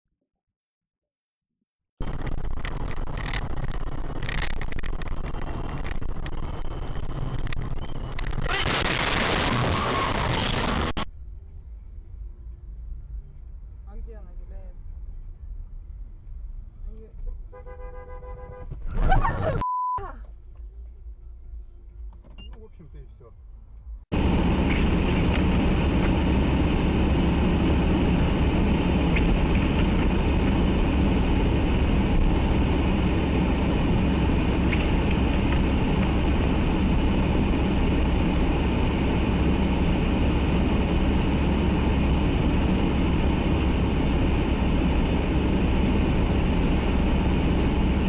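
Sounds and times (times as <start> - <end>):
car engine and road noise: 2.0 - 48.0.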